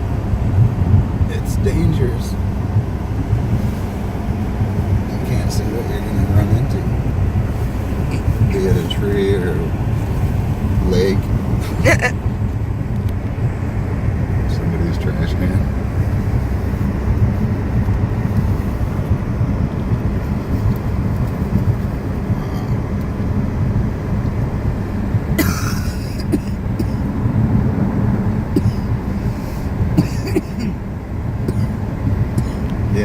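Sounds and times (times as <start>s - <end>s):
car cabin road and engine rumble: 0.0s - 33.0s.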